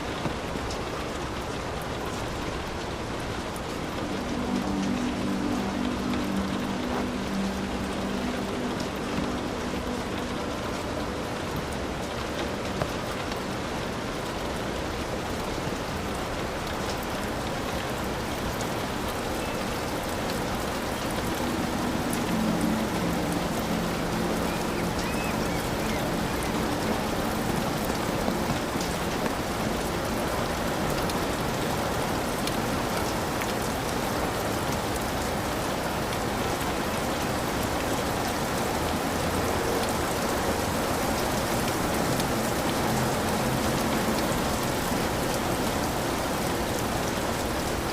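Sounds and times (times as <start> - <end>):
heavy rain on a roof: 0.0 - 47.9.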